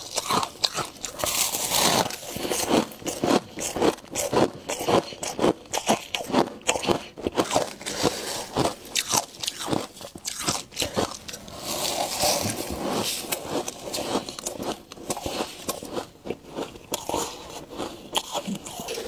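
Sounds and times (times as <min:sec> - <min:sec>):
ice being chewed: 0:00.0 - 0:19.0.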